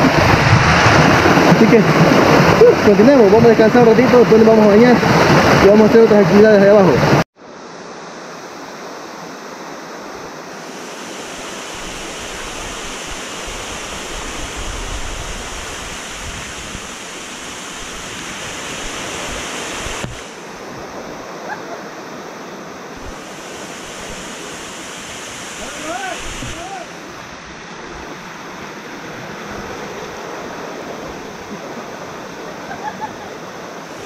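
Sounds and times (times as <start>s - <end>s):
waterfall rushing: 0.0s - 7.2s, 8.4s - 34.0s.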